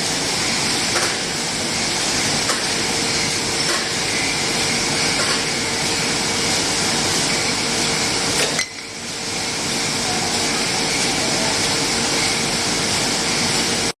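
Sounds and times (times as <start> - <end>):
packaging line conveyor hum: 0.0 - 13.9.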